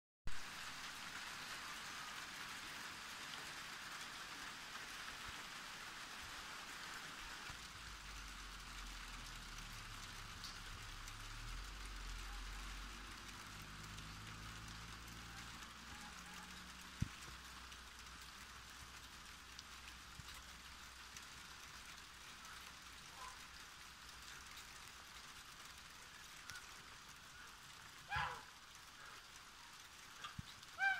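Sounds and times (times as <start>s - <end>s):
hail and rain on concrete: 0.3s - 30.9s.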